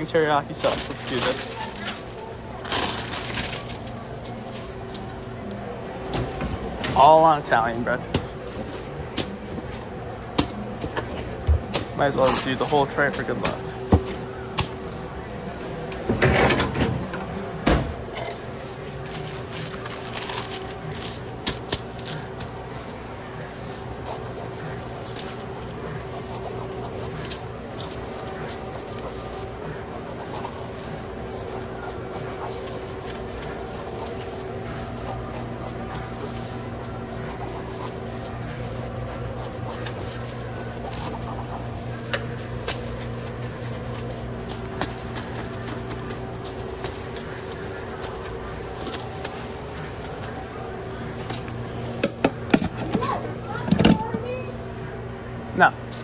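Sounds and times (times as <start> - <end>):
handling wrapping paper: 0.0 - 16.1, 17.2 - 52.1
steady background hum: 0.0 - 56.0.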